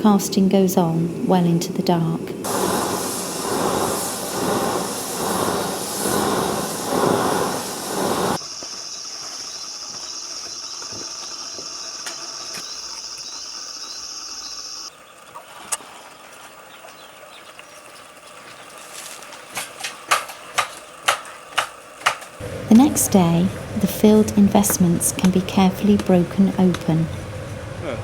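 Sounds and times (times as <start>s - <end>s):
furnace hissing roar: 0.0s - 15.0s, 17.0s - 28.0s.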